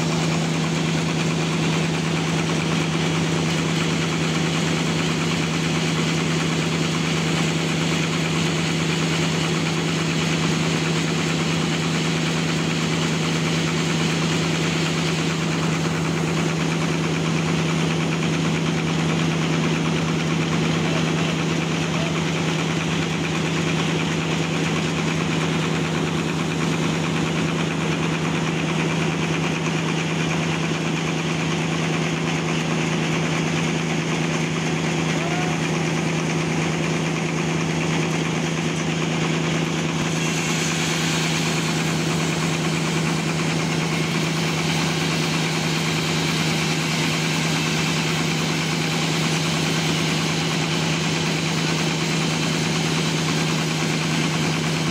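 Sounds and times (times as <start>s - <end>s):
sawmill engine humming: 0.0s - 54.9s.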